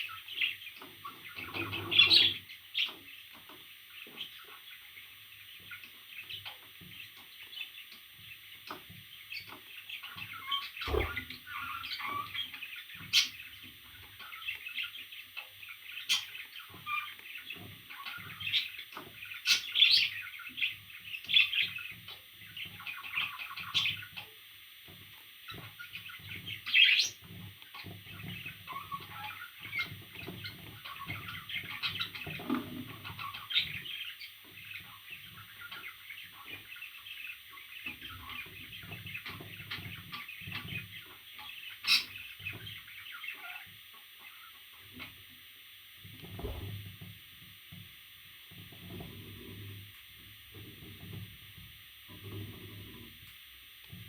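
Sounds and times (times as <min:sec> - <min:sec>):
parrots chirping and chattering: 0:00.0 - 0:07.9, 0:08.6 - 0:24.2, 0:25.5 - 0:45.2.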